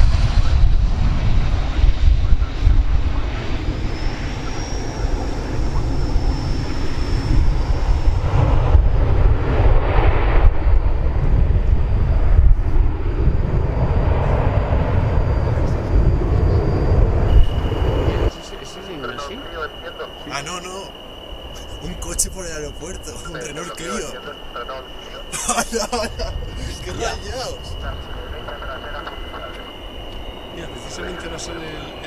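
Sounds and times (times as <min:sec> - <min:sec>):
jet engine reverse thrust roar: 0:00.0 - 0:32.0
thin high whine: 0:00.0 - 0:32.0.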